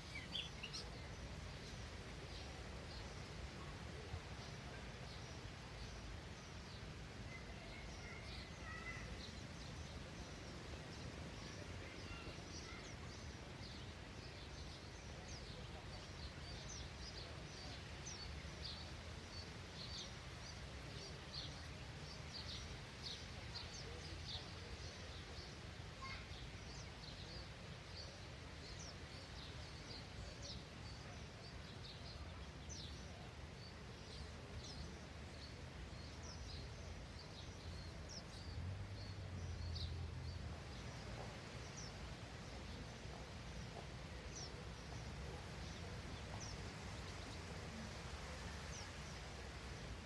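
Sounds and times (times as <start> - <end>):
faint low outdoor rumble: 0.0 - 50.0
small birds chirping: 0.0 - 50.0.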